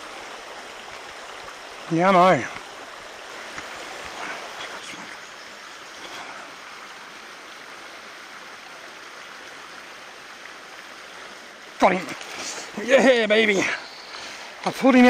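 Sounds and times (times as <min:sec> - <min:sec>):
creek running over stones: 0:00.0 - 0:15.0.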